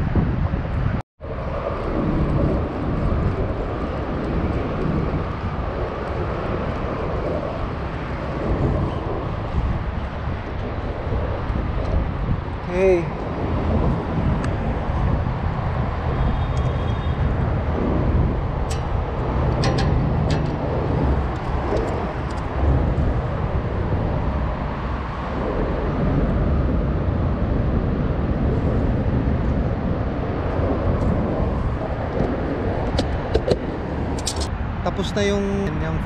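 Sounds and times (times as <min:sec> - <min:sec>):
road traffic rumble: 0:01.2 - 0:36.0.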